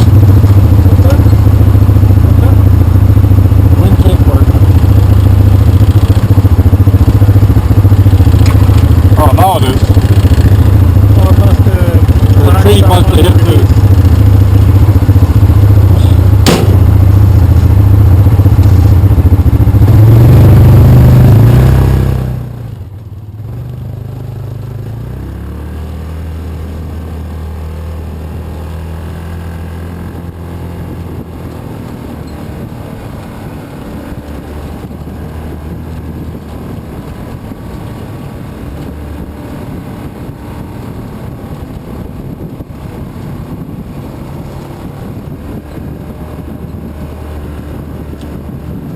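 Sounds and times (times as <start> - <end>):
engine running under load: 0.0 - 48.9.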